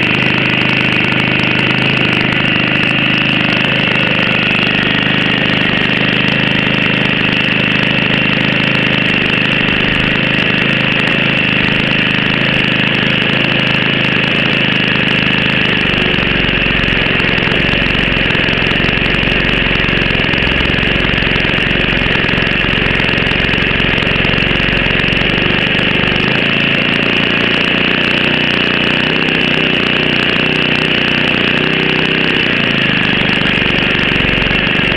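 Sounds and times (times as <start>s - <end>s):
model plane engine running: 0.0s - 34.9s.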